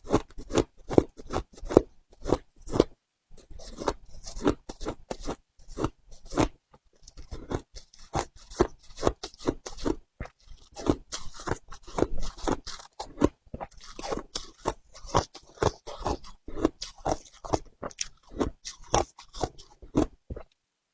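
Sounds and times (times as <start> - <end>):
frozen ice being chewed: 0.0 - 20.6.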